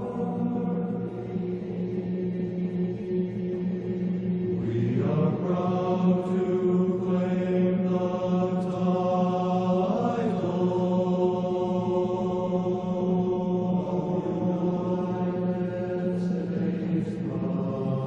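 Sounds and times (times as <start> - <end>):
chanted vocal line: 0.0 - 18.0.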